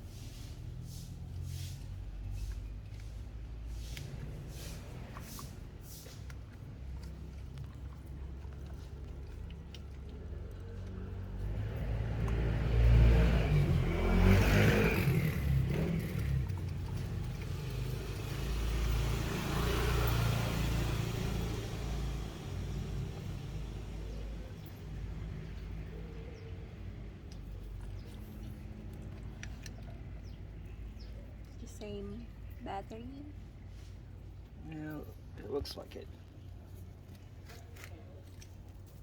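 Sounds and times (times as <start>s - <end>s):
vehicles passing by: 0.0s - 39.0s.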